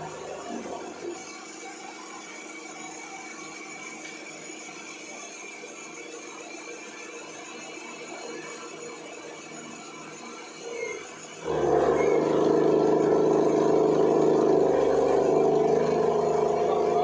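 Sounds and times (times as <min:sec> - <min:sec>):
cutter milling steel: 0:00.0 - 0:17.0
spindle whine: 0:00.0 - 0:17.0.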